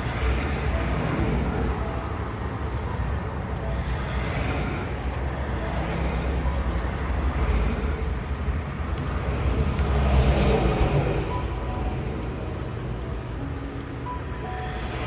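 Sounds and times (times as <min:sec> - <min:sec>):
highway traffic rushing: 0:00.0 - 0:15.0
vehicle passing close: 0:00.0 - 0:15.0.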